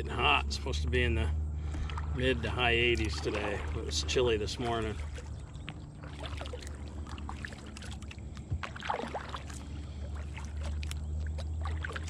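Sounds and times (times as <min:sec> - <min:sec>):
steady low hum: 0:00.0 - 0:12.0
paddle splashing in water: 0:01.6 - 0:12.0.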